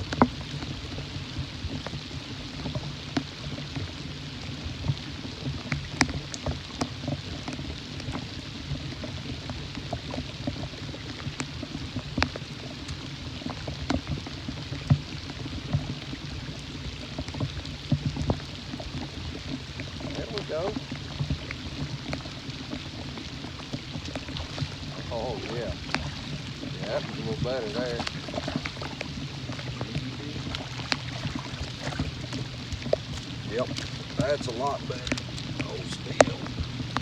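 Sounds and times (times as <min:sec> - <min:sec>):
rain falling: 0:00.0 - 0:37.0
raindrops ticking: 0:00.0 - 0:37.0.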